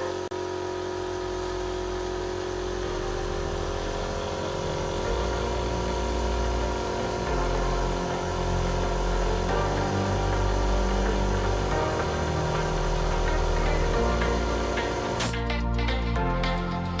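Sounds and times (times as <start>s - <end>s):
background music with bass line: 2.6s - 17.0s.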